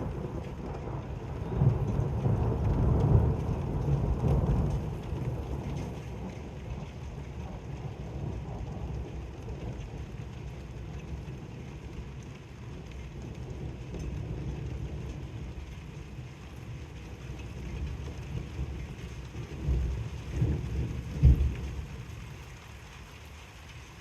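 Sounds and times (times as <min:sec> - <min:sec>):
thunder rumble: 0:00.0 - 0:22.5
steady rain falling: 0:00.0 - 0:24.0.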